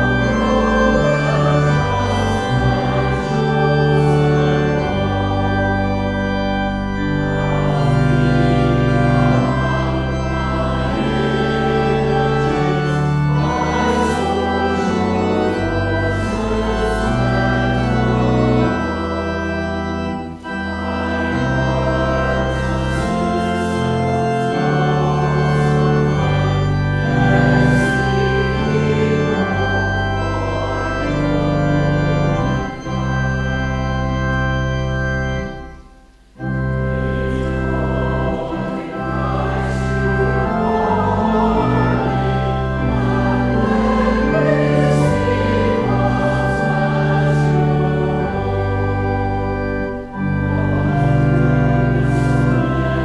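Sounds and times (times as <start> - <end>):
church organ playing hymn: 0.0 - 53.0.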